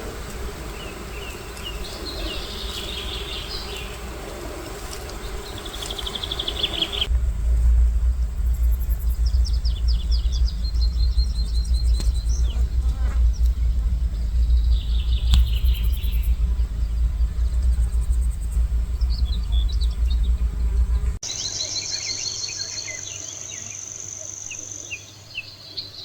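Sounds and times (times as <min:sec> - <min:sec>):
uneven low rumble: 0:00.0 - 0:21.2
small birds singing: 0:00.0 - 0:26.0.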